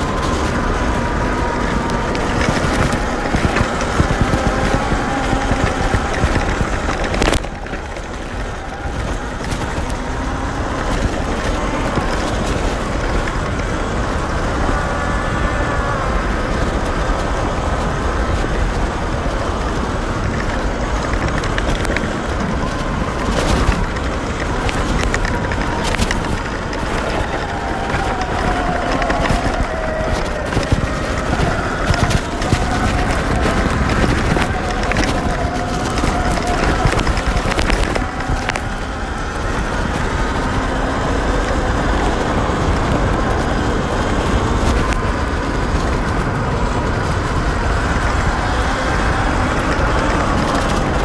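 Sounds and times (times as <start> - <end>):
wind and rumble noise: 0.0 - 51.0.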